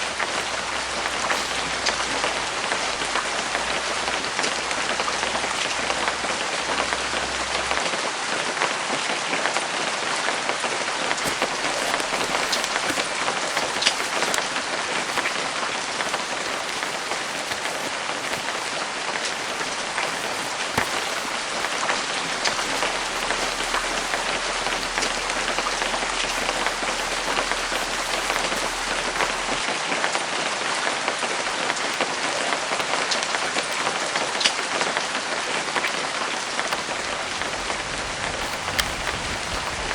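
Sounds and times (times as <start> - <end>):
rain falling on canvas: 0.0 - 7.8, 11.0 - 29.7, 31.5 - 39.9.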